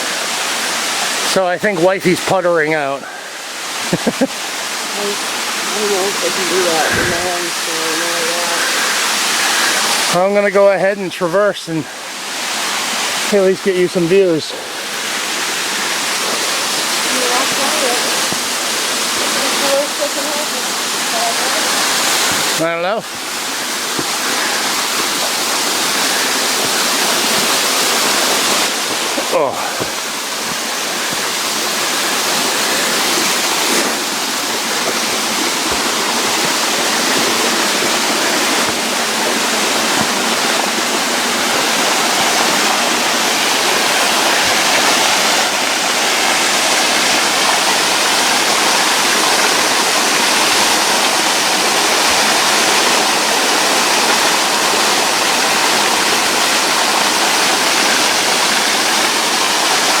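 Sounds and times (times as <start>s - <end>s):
waterfall roaring: 0.0s - 60.0s.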